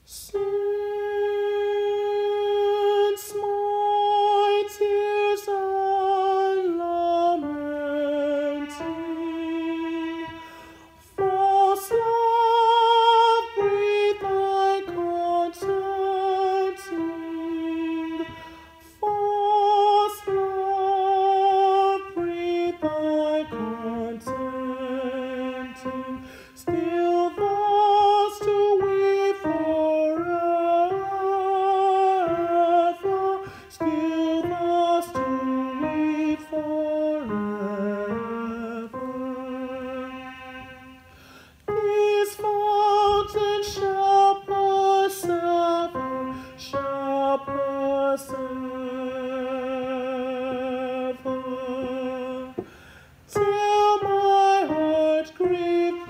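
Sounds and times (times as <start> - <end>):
person singing unaccompanied: 0.0 - 56.0.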